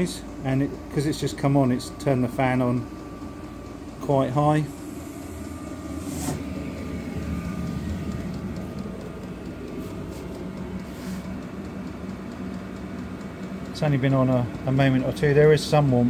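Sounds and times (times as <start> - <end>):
heater blower fan humming: 0.0 - 16.0.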